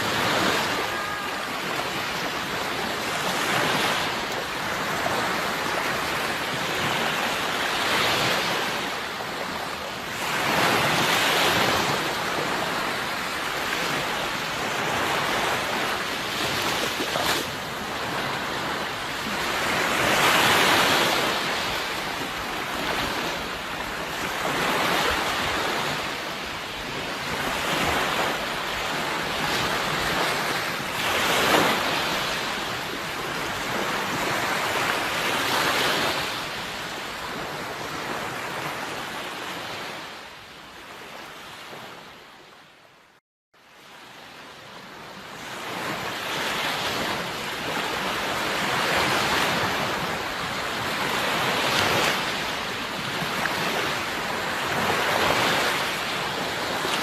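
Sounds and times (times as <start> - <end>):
sea waves washing onto shore: 0.0 - 40.2, 44.9 - 57.0.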